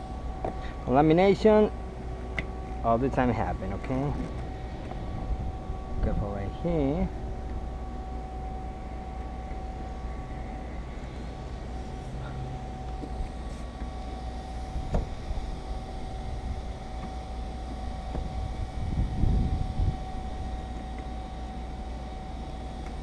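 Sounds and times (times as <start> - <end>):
thin steady whine: 0.0 - 23.0.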